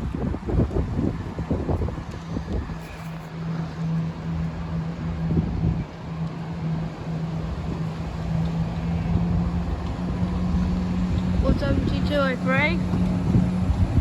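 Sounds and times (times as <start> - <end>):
diesel train engine drone: 0.0 - 14.0
wind buffeting microphone: 0.0 - 14.0.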